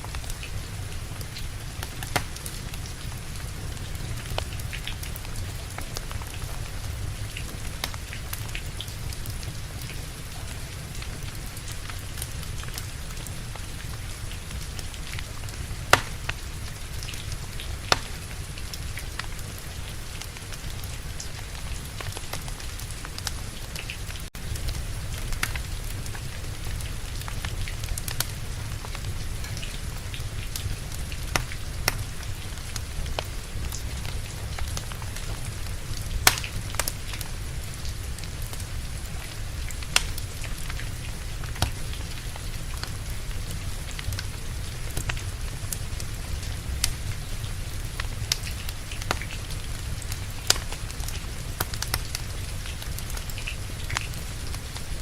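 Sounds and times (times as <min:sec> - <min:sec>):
steady rain: 0:00.0 - 0:55.0
wood fire crackling and popping: 0:00.0 - 0:55.0.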